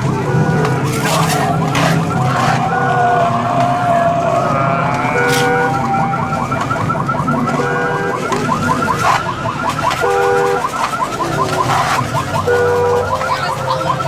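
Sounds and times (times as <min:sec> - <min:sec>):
car alarm warbling: 0:00.0 - 0:14.0.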